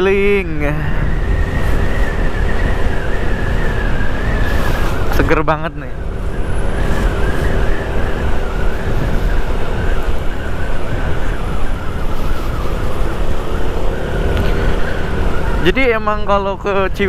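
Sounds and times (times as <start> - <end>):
wind rumble on microphone: 0.0 - 15.7.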